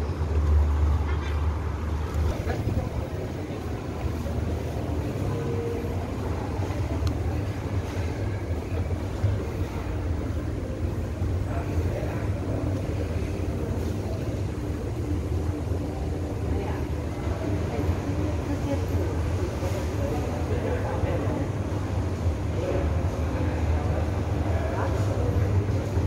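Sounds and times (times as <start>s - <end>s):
store indoor ambience: 0.0s - 26.0s.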